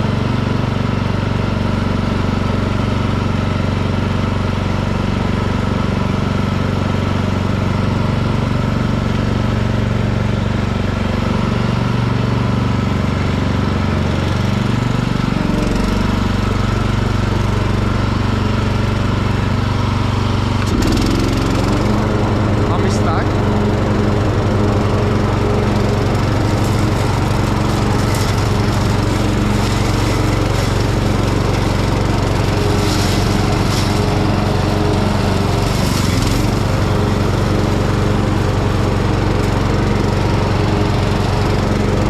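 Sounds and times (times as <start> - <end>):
garden tractor engine running: 0.0 - 42.0.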